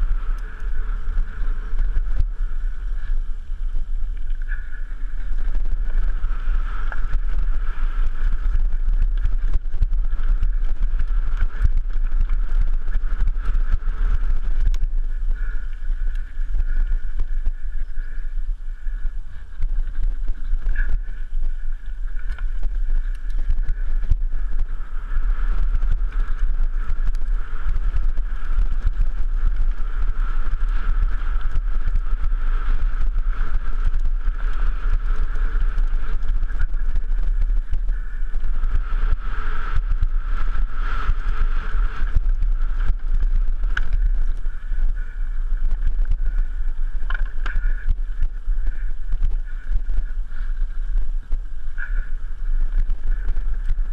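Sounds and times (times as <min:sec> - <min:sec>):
bike rattling and clicking: 0:00.0 - 0:53.9
wind rumble on microphone: 0:00.0 - 0:53.9.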